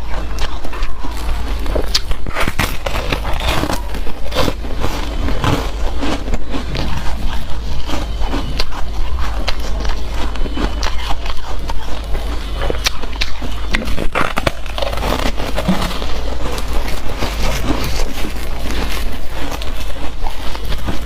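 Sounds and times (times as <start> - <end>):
chewing slushy ice: 0.0 - 21.0.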